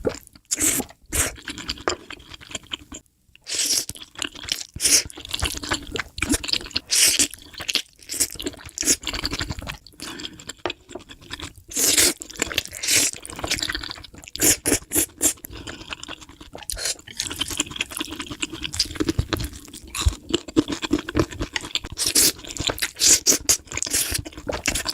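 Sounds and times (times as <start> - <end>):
person crunching and chewing: 0.0 - 24.9.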